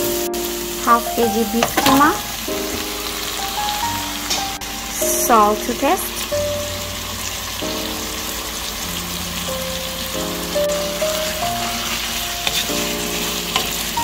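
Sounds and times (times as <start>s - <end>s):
meat and onions sizzling in oil: 0.0s - 14.0s
soft background music: 0.0s - 14.0s.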